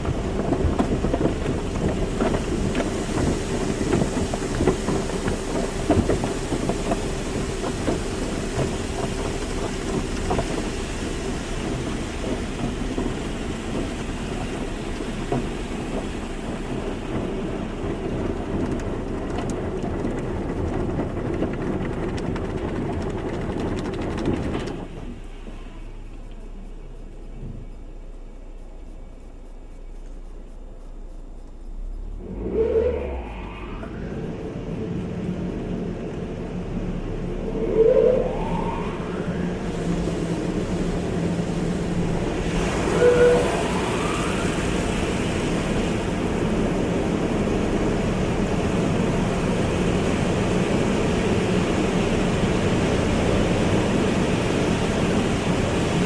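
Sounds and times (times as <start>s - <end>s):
water spraying on a car: 0.0s - 29.8s, 38.2s - 56.0s
machinery hum: 0.0s - 56.0s.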